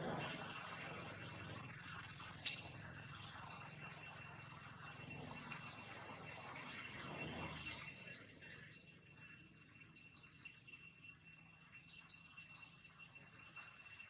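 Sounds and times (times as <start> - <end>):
high-pitched drone: 0.0 - 14.0
bird chirping: 0.2 - 11.0, 11.8 - 14.0.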